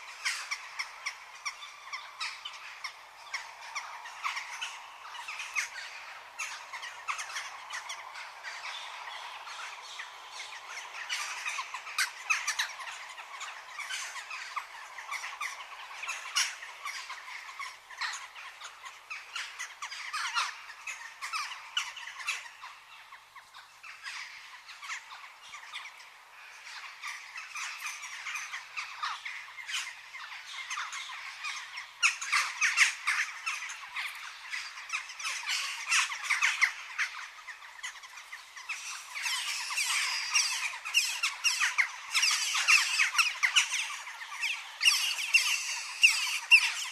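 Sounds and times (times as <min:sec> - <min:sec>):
many birds chirping: 0:00.0 - 0:46.9.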